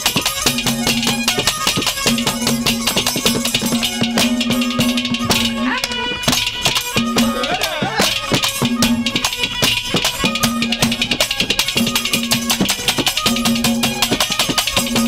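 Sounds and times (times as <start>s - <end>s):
fast hand drum strokes: 0.0s - 15.0s
harmonium holding repeated notes: 0.0s - 15.0s
jingling percussion: 0.0s - 15.0s.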